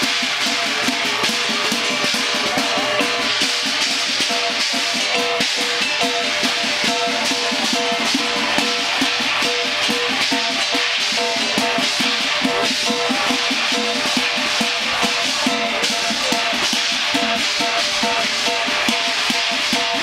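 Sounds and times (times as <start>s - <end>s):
cymbals clashing: 0.0s - 20.0s
rapid drum strokes: 0.0s - 20.0s.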